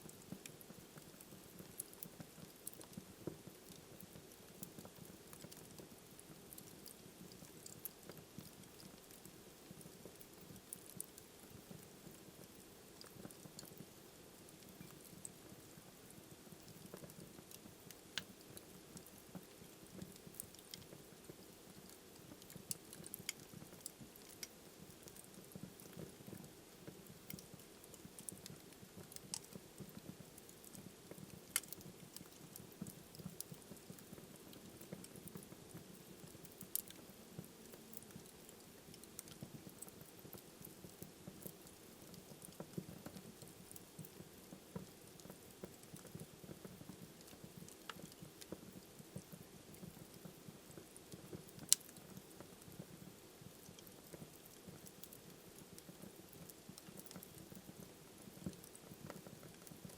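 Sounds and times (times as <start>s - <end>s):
wood fire crackles and pops: 0.0s - 59.9s.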